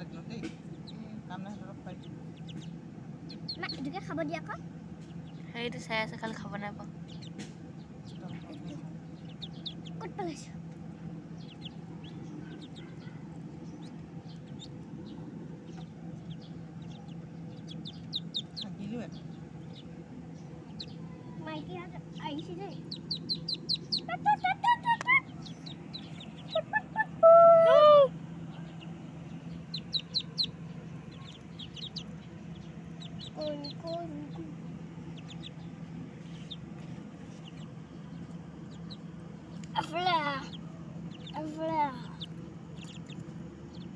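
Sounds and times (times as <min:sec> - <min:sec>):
ducklings peeping: 0:00.0 - 0:43.9
steady low hum: 0:00.0 - 0:43.9.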